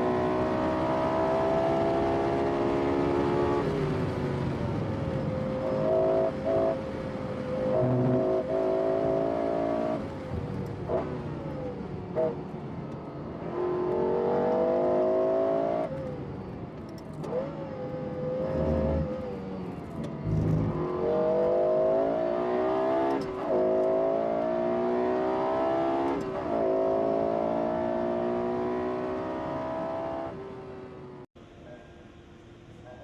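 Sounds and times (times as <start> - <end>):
car engine accelerating hard: 0.0 - 16.2, 17.1 - 31.0.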